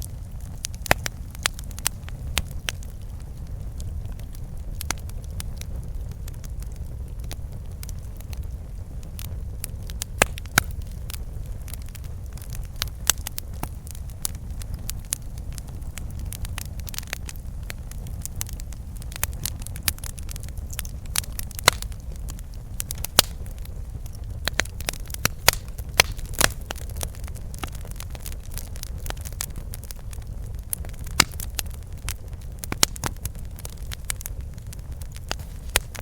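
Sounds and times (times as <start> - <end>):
low rumble of flames: 0.0 - 36.0
wood crackling and popping: 0.0 - 36.0.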